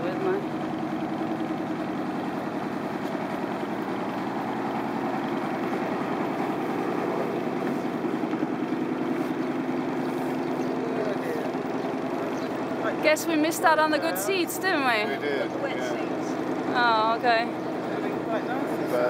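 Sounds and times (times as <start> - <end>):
boat engine throbbing: 0.0 - 19.0.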